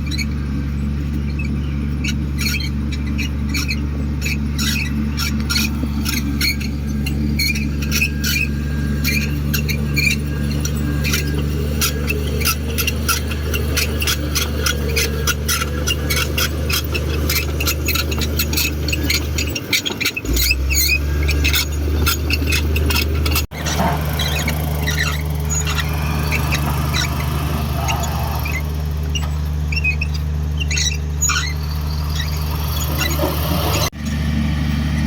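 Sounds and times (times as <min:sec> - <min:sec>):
rapid high squeaks and clicks: 0:00.0 - 0:34.0
bulldozer diesel engine running: 0:00.0 - 0:35.0.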